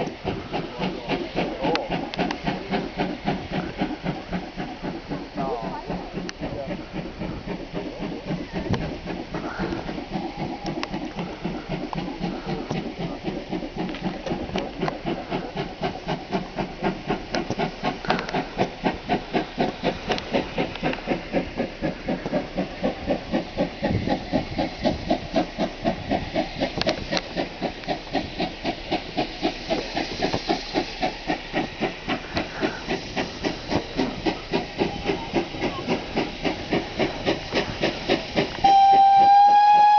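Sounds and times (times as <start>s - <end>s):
steam hissing: 0.0s - 39.9s
steam locomotive exhaust beats: 0.0s - 39.9s.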